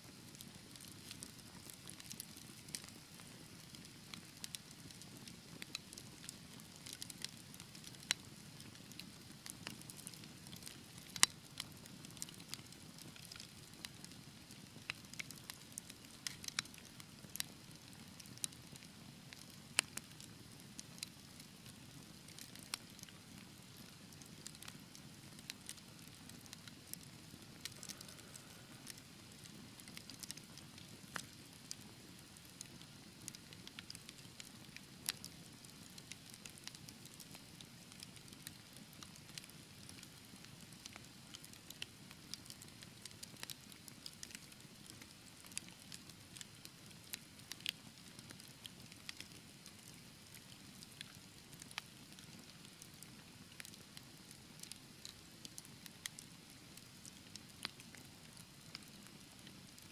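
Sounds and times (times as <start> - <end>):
fireplace fire crackling: 0.1 - 59.9.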